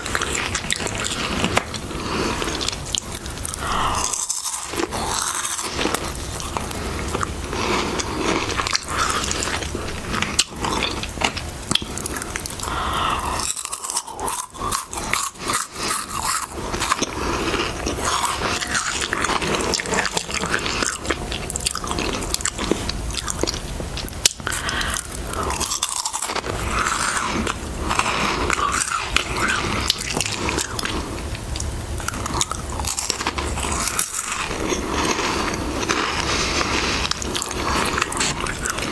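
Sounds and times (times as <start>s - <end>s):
chewing crunchy crisps: 0.0s - 38.9s.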